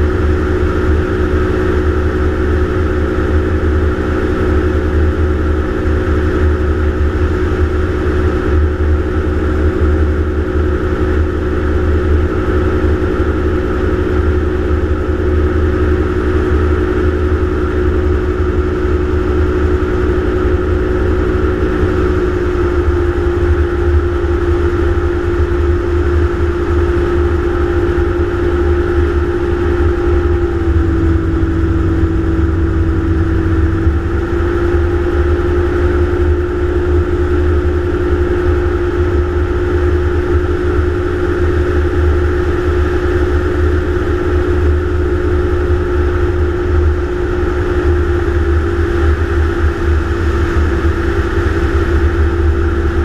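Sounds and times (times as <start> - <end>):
gyroplane engine running: 0.0 - 53.0.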